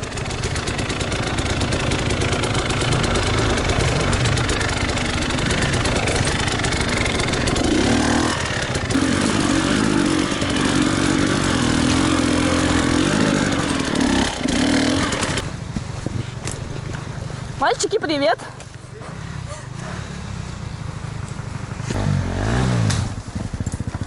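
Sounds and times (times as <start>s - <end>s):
motorcycle engine under load: 0.0s - 24.0s.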